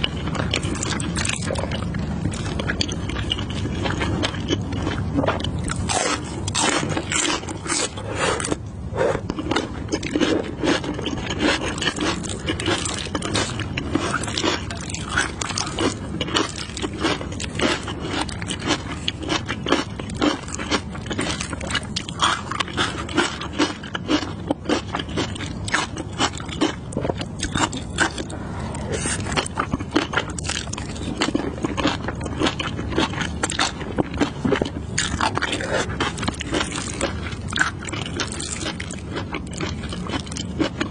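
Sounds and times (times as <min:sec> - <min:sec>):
crunching and chewing cucumber: 0:00.0 - 0:40.9.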